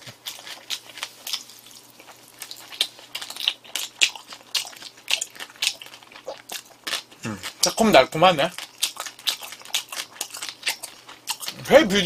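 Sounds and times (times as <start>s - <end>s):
wet crunchy chewing: 0.0s - 12.0s.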